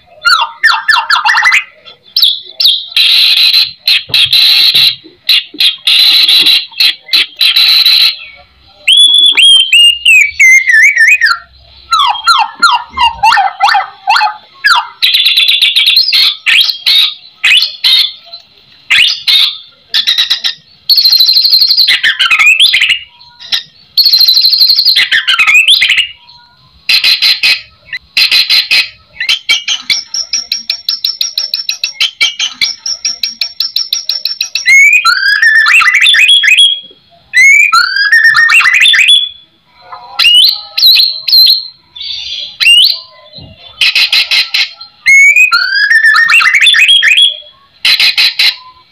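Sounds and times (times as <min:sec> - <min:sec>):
bird singing varied song: 0:00.0 - 0:48.9.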